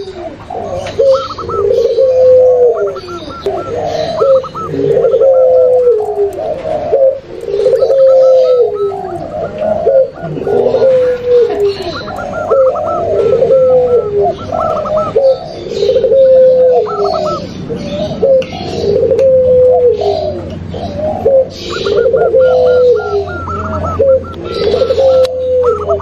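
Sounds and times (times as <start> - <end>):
doves cooing: 0.0 - 26.0
low steady hum: 0.0 - 26.0.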